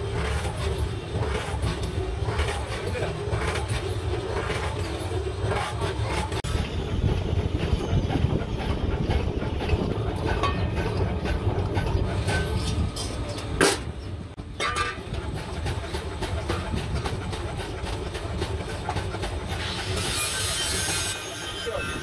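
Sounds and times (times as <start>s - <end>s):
low machine rumble: 0.0s - 19.9s.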